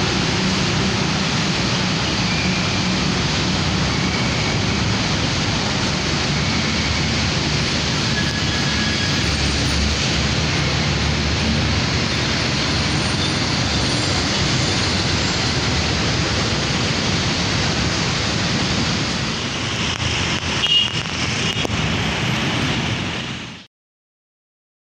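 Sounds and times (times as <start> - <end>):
road traffic rushing: 0.0 - 23.7.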